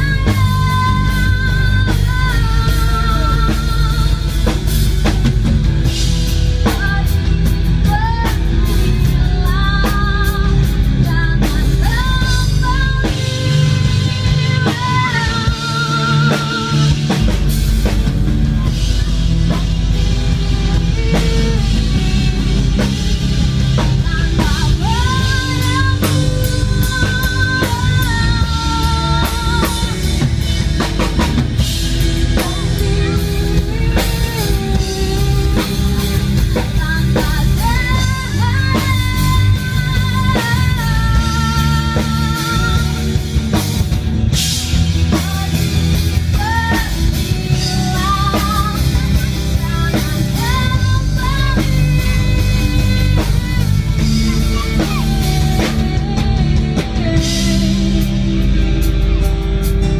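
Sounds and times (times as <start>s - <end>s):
woman singing: 0.0s - 59.1s
drum kit: 0.0s - 59.9s
electric bass: 0.0s - 59.9s.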